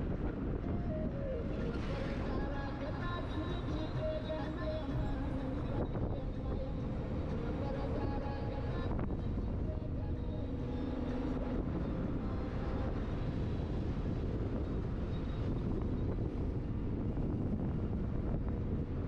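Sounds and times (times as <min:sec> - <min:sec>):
car engine and tyres on road: 0:00.0 - 0:19.0.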